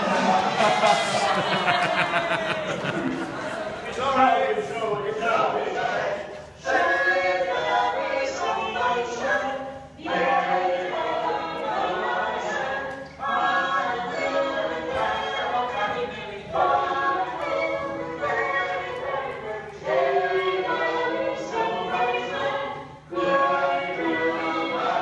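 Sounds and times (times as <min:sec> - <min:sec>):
group singing unaccompanied: 0:00.0 - 0:25.0.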